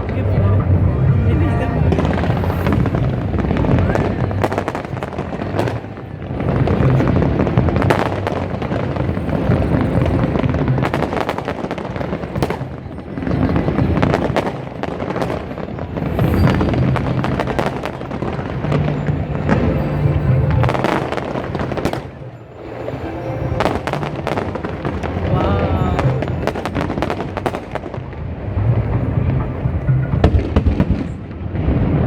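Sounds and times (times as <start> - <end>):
fireworks bangs and crackling: 0.0 - 32.0
music playing: 0.0 - 32.0.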